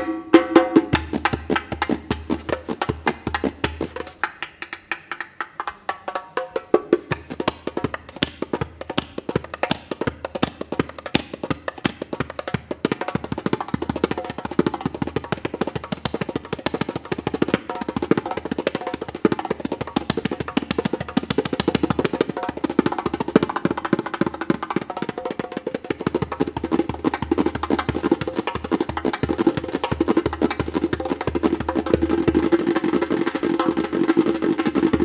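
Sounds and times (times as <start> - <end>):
djembe played with hands: 0.0 - 35.0.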